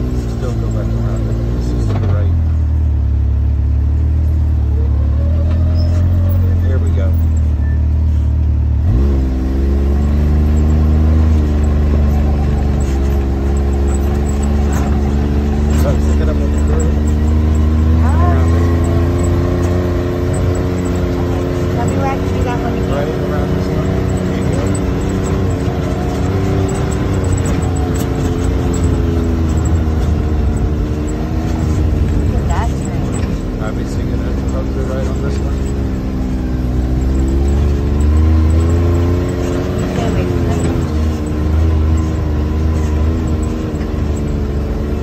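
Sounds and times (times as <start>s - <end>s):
off-road vehicle engine under load: 0.0s - 45.0s
tyres rumbling on dirt trail: 0.0s - 45.0s.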